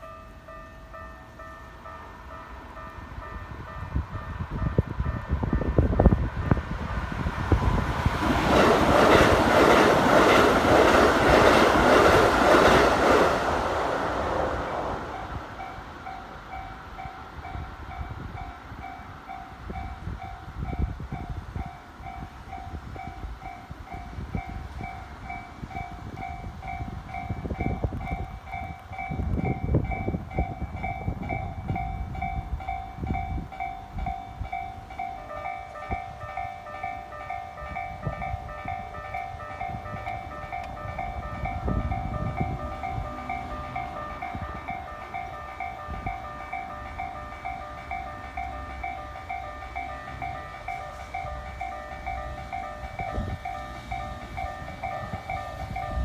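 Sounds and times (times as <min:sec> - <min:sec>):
second crossing bell: 0:00.0 - 0:06.6, 0:15.1 - 0:56.0
electric train passing: 0:00.0 - 0:56.0.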